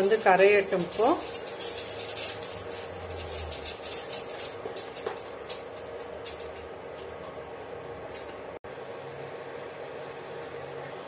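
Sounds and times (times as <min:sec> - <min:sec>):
sugar sizzling in a pan: 0:00.0 - 0:11.0.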